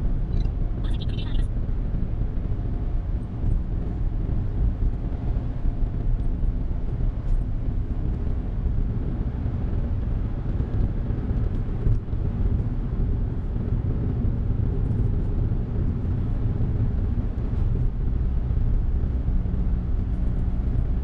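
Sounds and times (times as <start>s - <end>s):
road and engine noise inside car: 0.0s - 21.0s.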